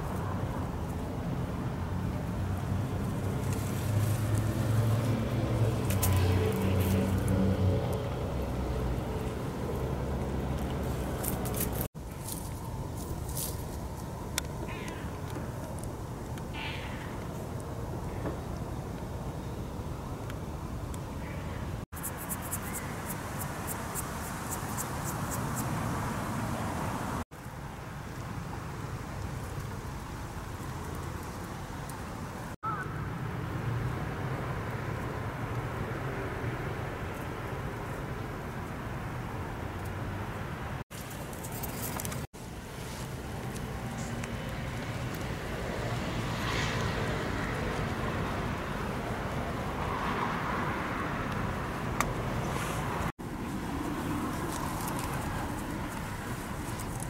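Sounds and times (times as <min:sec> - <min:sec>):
distant road traffic rumble: 0:00.0 - 0:57.0
outdoor background noise: 0:00.0 - 0:57.0.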